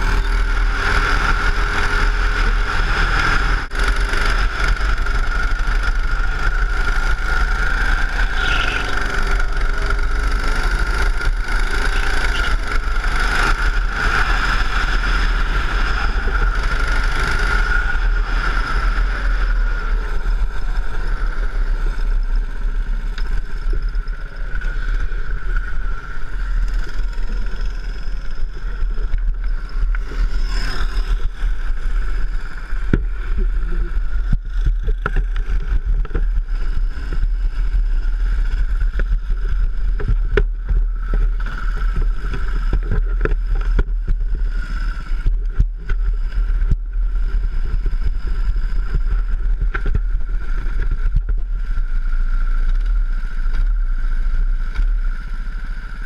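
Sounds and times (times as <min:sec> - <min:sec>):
go-kart engine racing: 0:00.0 - 0:56.0
wind rumbling on microphone: 0:00.0 - 0:56.0.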